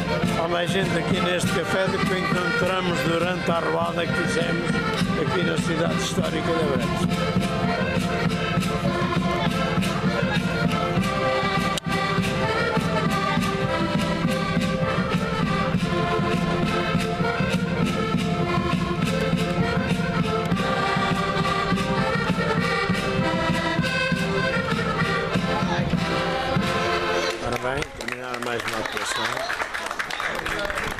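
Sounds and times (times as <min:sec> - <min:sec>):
button accordions playing folk tune: 0:00.0 - 0:27.8.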